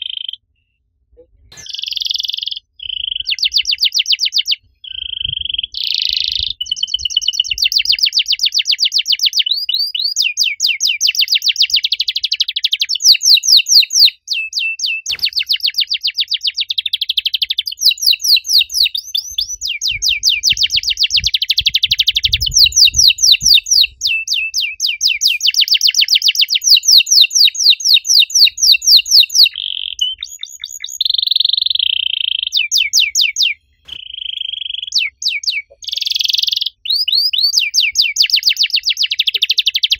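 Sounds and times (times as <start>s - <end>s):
canary singing trills: 0.0s - 0.5s, 1.5s - 39.9s.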